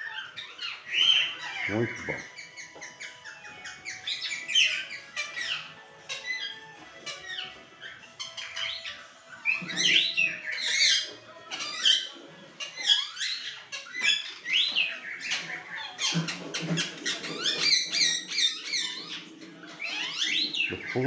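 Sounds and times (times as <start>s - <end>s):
parrots chirping and whistling: 0.0s - 21.0s.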